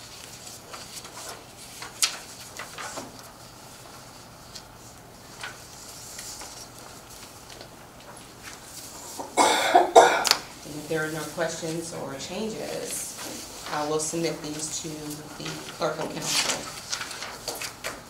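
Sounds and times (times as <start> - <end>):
rustling: 0.0 - 9.2, 10.5 - 18.0
faint steady hum: 0.0 - 18.0.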